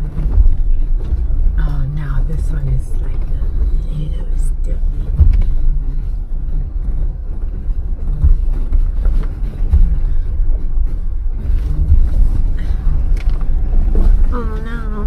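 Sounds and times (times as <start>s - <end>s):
off-road vehicle rumbling: 0.0s - 15.0s.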